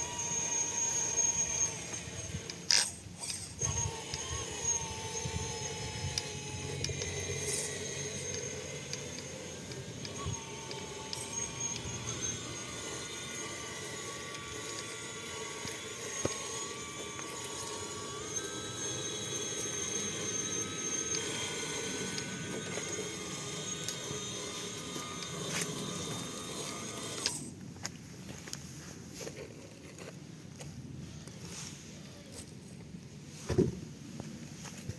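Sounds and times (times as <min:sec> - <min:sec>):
toy tractor motor whining: 0:00.0 - 0:27.6, 0:31.0 - 0:33.4.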